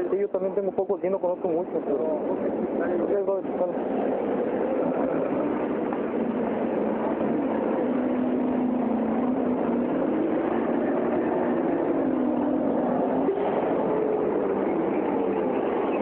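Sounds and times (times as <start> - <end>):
low hum drifting in pitch: 0.0 - 16.0
vehicle engine and traffic: 0.0 - 16.0.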